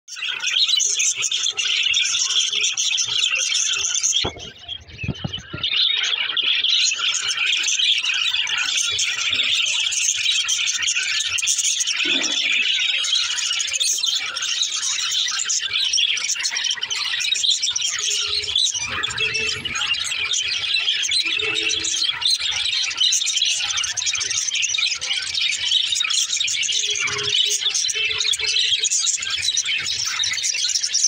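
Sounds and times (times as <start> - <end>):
budgerigars chattering: 0.2 - 31.0.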